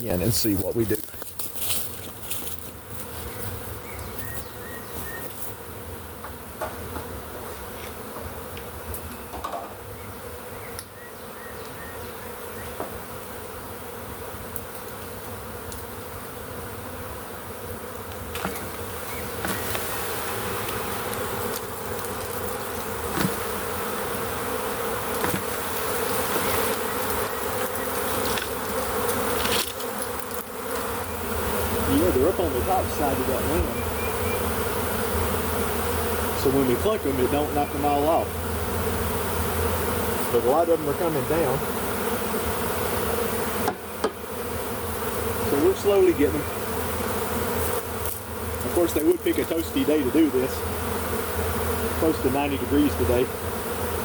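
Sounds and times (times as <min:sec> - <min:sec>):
bee swarm buzzing: 0:00.0 - 0:54.0.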